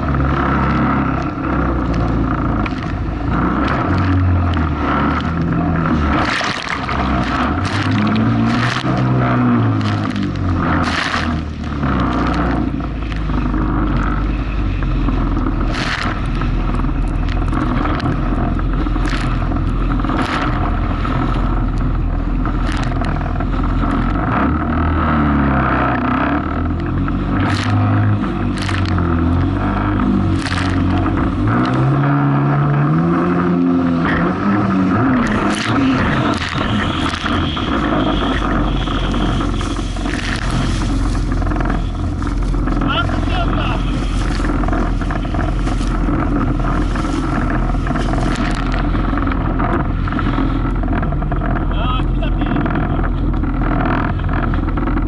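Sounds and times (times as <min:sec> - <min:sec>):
jet ski engine revving: 0:00.0 - 0:55.0
hull slapping on waves: 0:00.1 - 0:24.7, 0:34.3 - 0:55.0.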